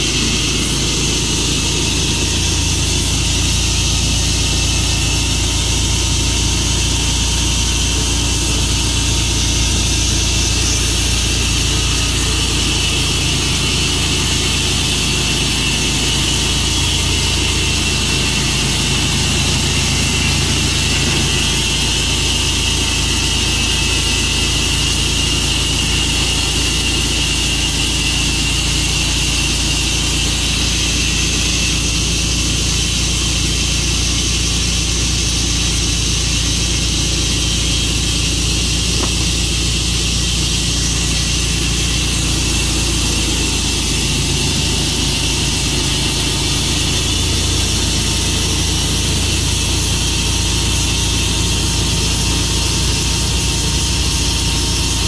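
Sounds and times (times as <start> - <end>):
high whine: 0.0 - 55.0
sawmill engine running: 0.0 - 55.0.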